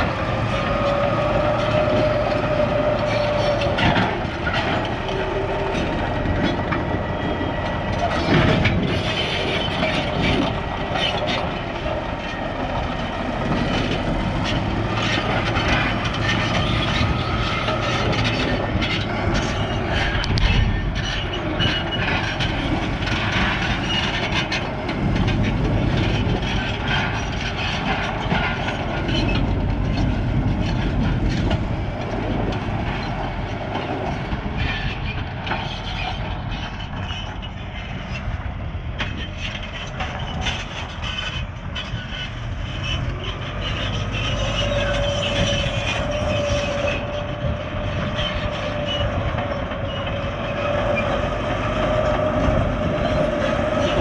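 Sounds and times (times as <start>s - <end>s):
diesel engine under load: 0.0s - 54.0s
steel tracks clanking and squealing: 0.0s - 54.0s.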